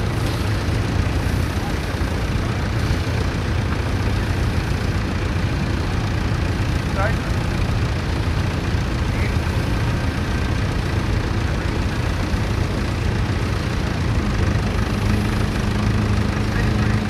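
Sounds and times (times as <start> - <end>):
tractor engine rumbling: 0.0 - 17.0.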